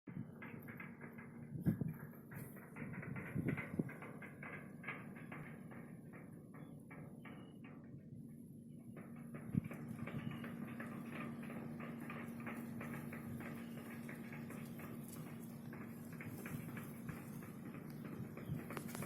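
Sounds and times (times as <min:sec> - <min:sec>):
rapid uneven knocking: 0:00.1 - 0:08.1, 0:08.9 - 0:19.0
steady low hum: 0:00.1 - 0:19.0.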